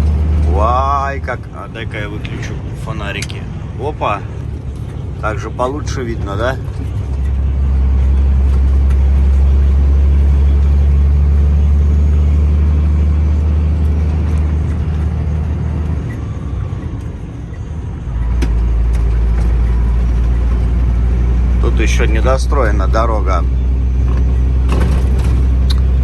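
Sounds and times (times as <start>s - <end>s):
truck engine drone inside cab: 0.0s - 26.0s.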